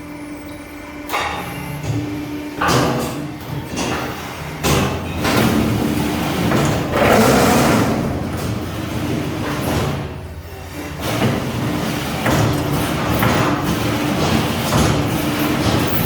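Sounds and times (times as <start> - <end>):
vibrator motors humming: 0.0 - 16.0
machine scraping rattling clanks: 0.4 - 16.0.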